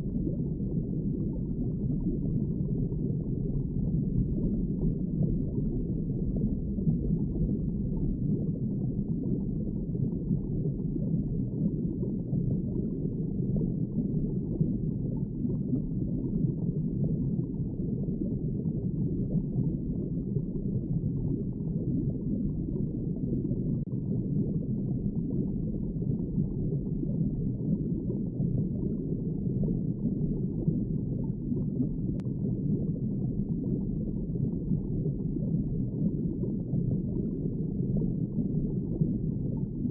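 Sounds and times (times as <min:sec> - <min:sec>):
muffled underwater water wash: 0:00.0 - 0:39.9.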